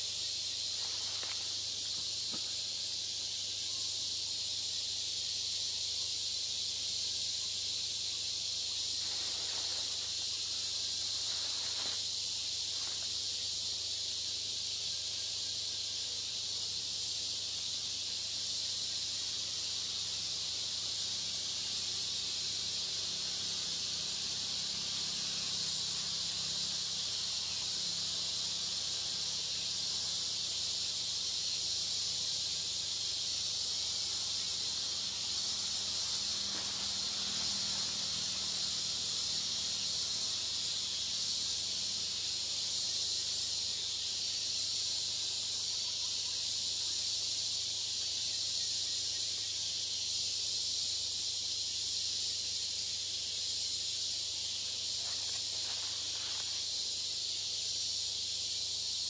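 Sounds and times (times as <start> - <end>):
insect chorus hissing: 0.0 - 59.0.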